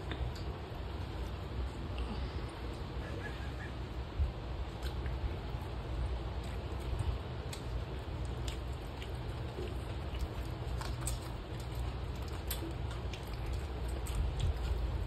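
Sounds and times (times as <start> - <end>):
chewing clicks and smacks: 0.0 - 2.0, 4.6 - 15.0
steady low rumble: 0.0 - 15.0.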